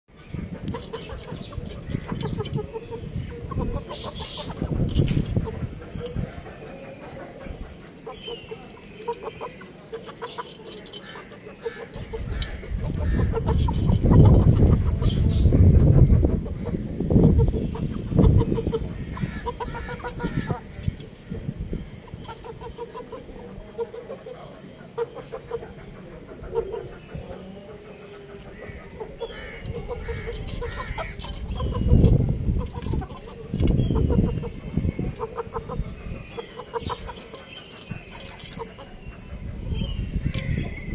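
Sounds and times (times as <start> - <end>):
chickens clucking softly: 0.2 - 40.9.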